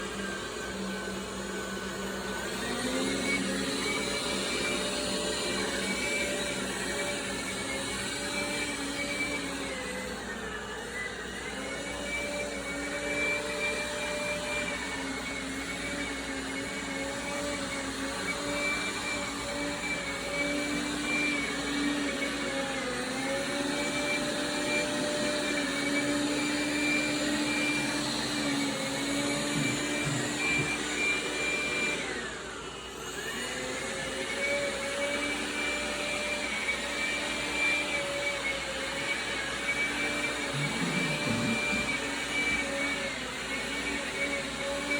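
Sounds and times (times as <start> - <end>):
robot vacuum suction whine: 0.0 - 44.9.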